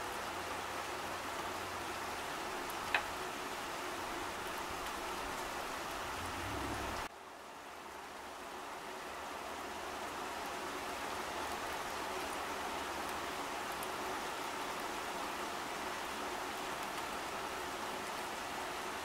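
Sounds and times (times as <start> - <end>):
rain on foliage: 0.0 - 19.0.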